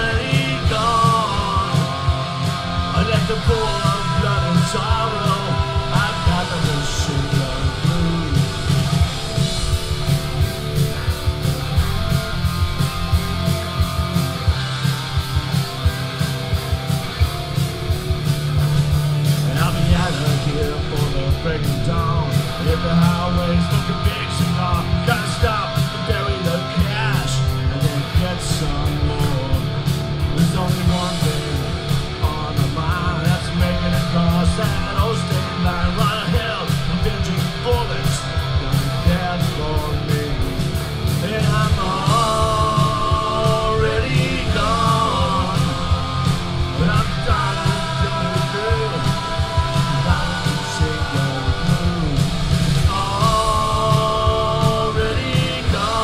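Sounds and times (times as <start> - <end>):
lead vocal singing: 0.0 - 17.3, 18.6 - 56.0
bass guitar: 0.0 - 56.0
distorted electric guitars: 0.0 - 56.0
drum kit: 0.0 - 56.0.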